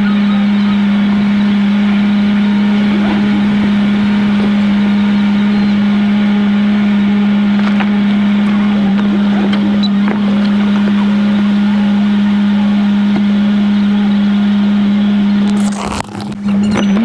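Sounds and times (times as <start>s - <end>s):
sped-up engine drone: 0.0s - 17.0s.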